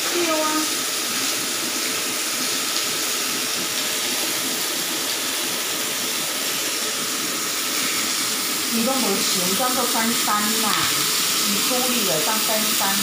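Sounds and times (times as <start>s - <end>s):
chicken sizzling on grill pan: 0.0s - 13.0s.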